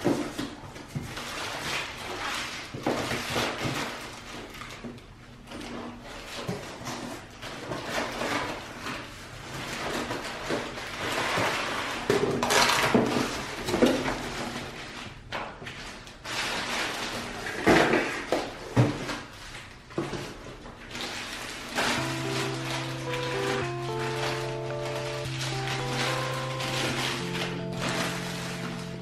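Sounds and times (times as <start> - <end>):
cardboard and plastic rustling: 0.0 - 29.0.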